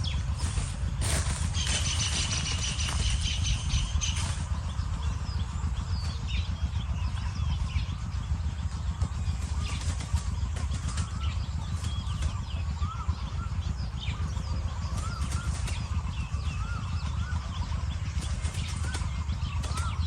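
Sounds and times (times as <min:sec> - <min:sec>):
steady low rumble: 0:00.0 - 0:20.0
wild birds chirping: 0:00.0 - 0:20.0.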